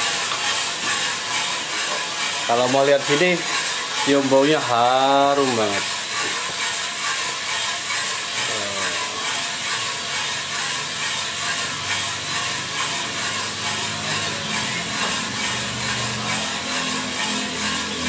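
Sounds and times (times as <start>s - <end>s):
beans tumbling in roaster drum: 0.0s - 18.0s.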